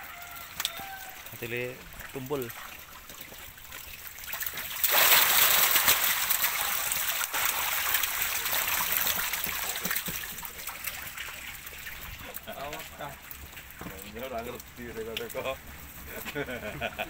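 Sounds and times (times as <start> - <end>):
fish thrashing in water: 0.0 - 16.2.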